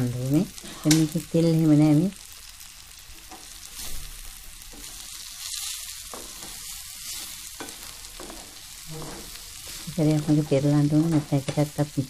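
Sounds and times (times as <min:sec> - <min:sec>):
fish sizzling in a pan: 0:00.0 - 0:12.0
spatula stirring in a pan: 0:02.2 - 0:11.9.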